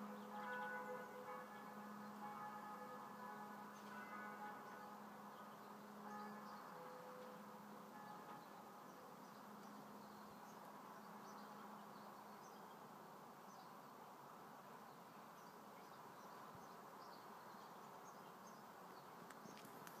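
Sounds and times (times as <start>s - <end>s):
faint outdoor hiss: 0.0s - 20.0s.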